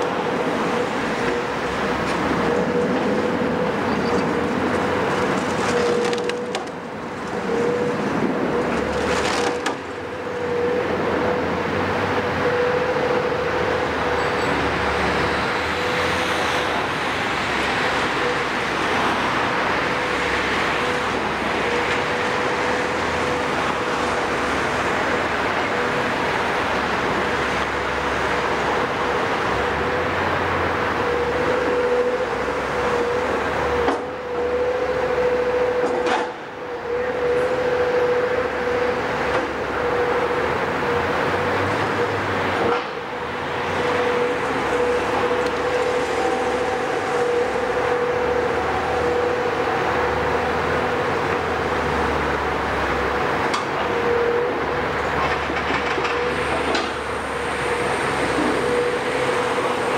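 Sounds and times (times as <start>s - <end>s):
excavator diesel engine and hydraulics: 0.0s - 59.9s.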